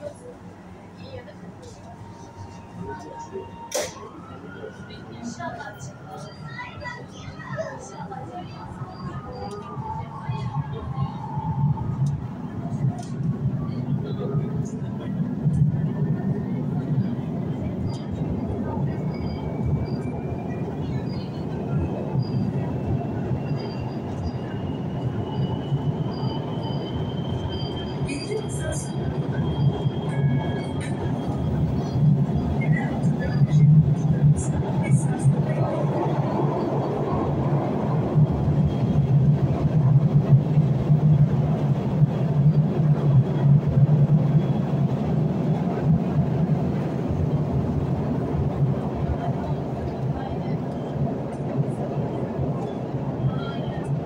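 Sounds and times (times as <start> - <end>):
train wheels rumbling on rails: 1.0 - 54.0.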